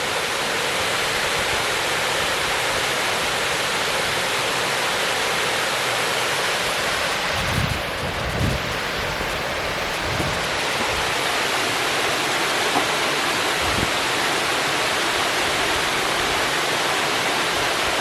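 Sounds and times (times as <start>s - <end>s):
stream flowing over roots: 1.8s - 18.0s.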